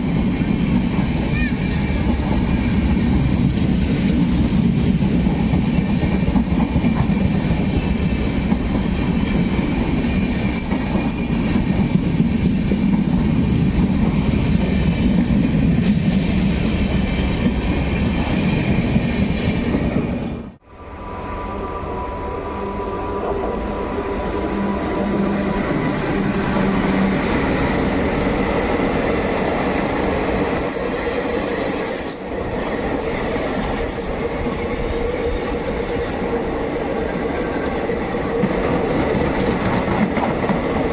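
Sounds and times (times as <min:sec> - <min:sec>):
train wheels rushing on rail: 0:00.0 - 0:40.9.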